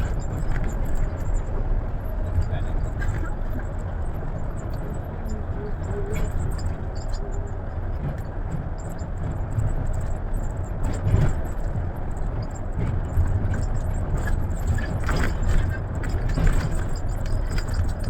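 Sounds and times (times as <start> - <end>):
sharp knocks and rattles: 0.0 - 4.8, 7.9 - 18.0
coach engine and road noise: 0.0 - 18.0.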